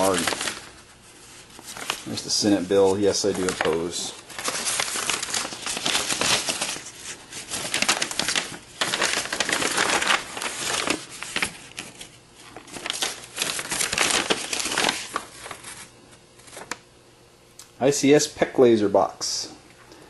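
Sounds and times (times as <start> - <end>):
packaging crinkling and rustling: 0.0 - 16.8.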